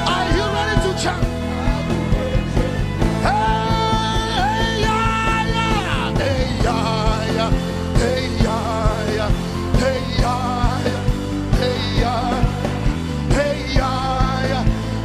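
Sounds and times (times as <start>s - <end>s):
steady drum beat: 0.0s - 15.0s
sustained low chords: 0.0s - 15.0s
worship band music: 0.0s - 15.0s.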